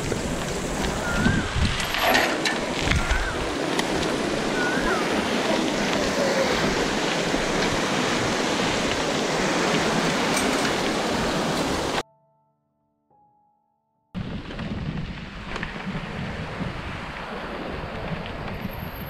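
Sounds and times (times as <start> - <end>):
steady rushing noise: 0.0 - 12.0, 14.2 - 19.0.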